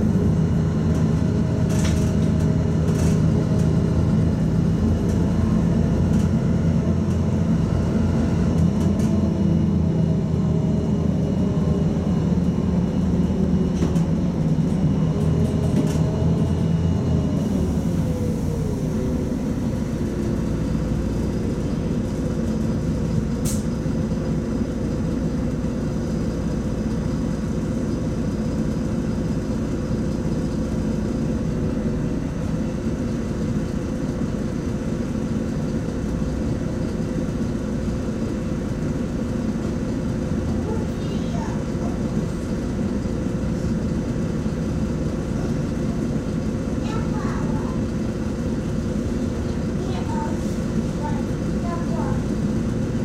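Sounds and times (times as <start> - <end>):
bus drivetrain whine: 0.0 - 53.0
bus engine idling drone: 0.0 - 53.0.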